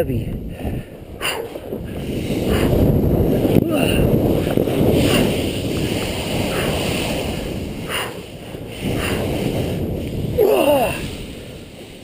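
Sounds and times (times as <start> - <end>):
wind on microphone: 0.0 - 12.0
snowboard sliding through snow: 1.5 - 12.0.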